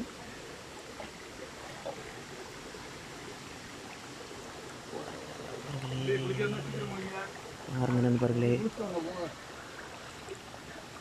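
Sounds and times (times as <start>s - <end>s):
water rushing over boulders: 0.0s - 11.0s.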